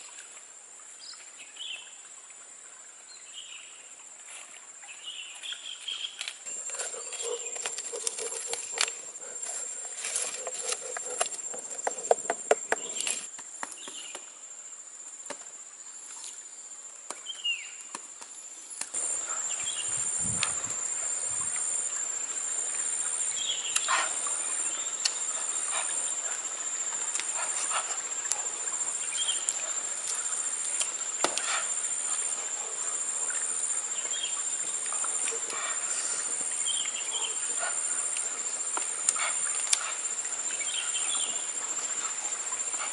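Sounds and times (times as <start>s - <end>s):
insect chorus with pulsing buzz: 0.0s - 42.9s.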